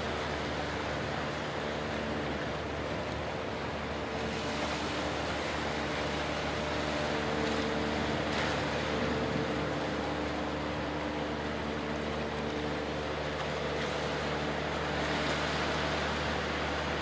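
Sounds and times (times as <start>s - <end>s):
boat engine hum: 0.0s - 17.0s
water noise: 0.0s - 17.0s
wind: 0.0s - 17.0s.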